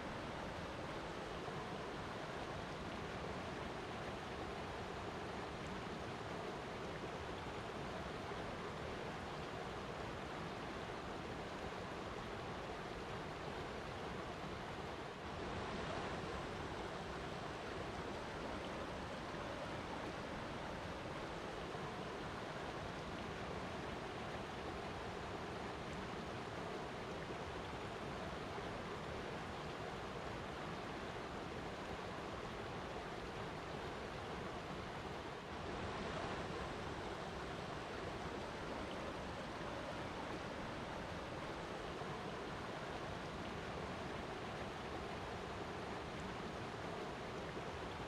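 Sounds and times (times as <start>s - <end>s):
water rushing: 0.0s - 48.0s.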